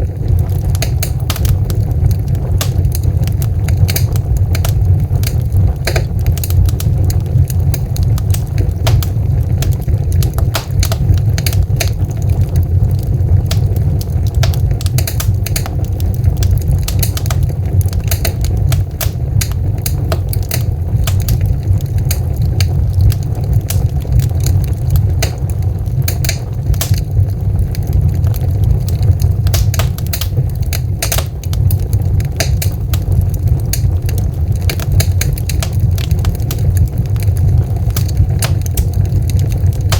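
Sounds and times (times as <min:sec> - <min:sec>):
low rumble of burning logs: 0:00.0 - 0:39.9
wood fire crackling and popping: 0:00.0 - 0:39.9.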